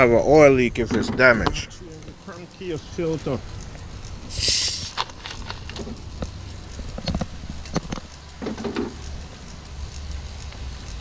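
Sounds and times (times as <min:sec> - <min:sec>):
ratchet metallic clicks: 0:00.0 - 0:11.0
steady low hum: 0:00.0 - 0:11.0.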